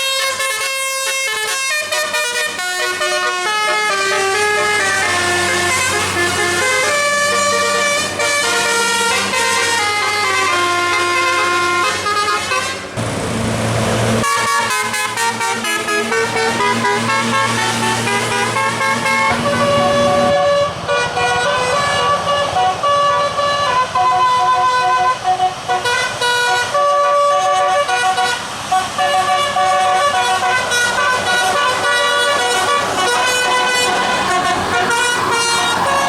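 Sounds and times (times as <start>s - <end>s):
bus musical air horn: 0.0s - 13.0s, 14.1s - 36.0s.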